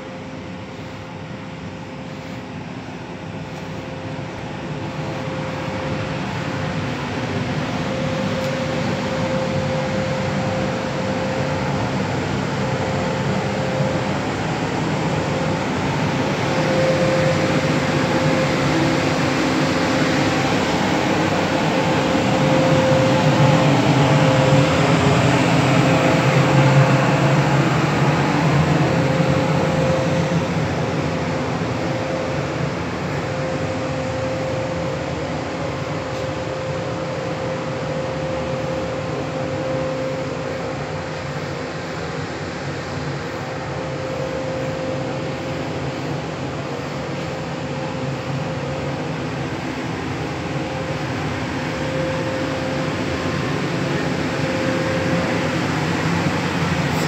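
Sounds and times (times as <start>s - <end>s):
constant whine: 0.0s - 57.0s
locomotive mechanical hum: 0.0s - 57.0s.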